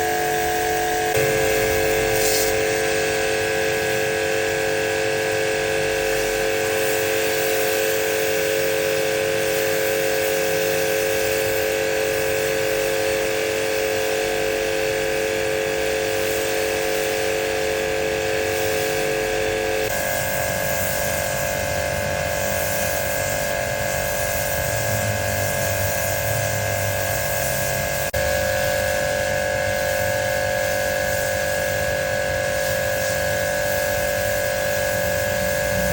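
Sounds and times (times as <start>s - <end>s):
pressure washer motor whining: 0.0s - 35.9s.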